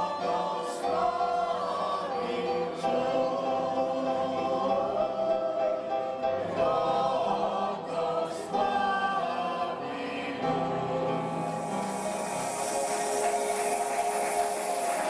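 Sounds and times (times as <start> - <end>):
vocal group singing a carol: 0.0 - 15.0.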